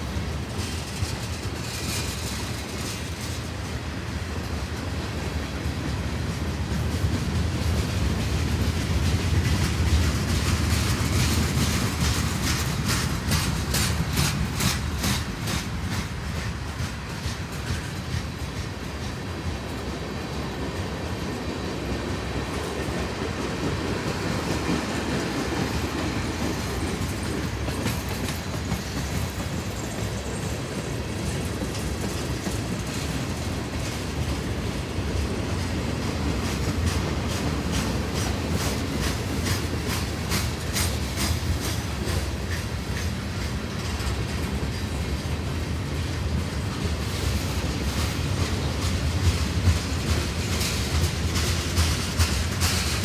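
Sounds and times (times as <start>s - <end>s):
freight train rumbling past: 0.0s - 53.0s
wheels clacking over rail joints: 0.0s - 53.0s.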